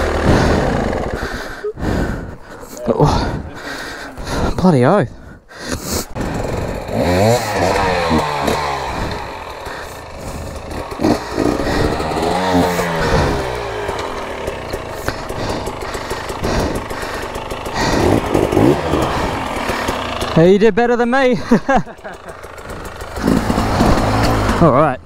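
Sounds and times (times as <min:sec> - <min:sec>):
dirt bike engine revving: 0:00.0 - 0:04.5, 0:05.6 - 0:25.0.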